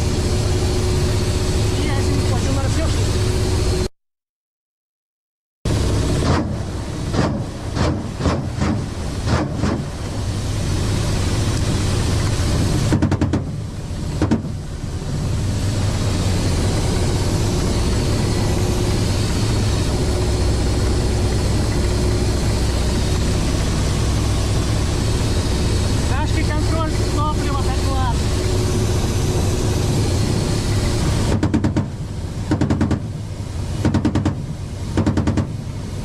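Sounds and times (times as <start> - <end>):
vehicle engine rumbling: 0.0 - 3.9, 5.7 - 36.0.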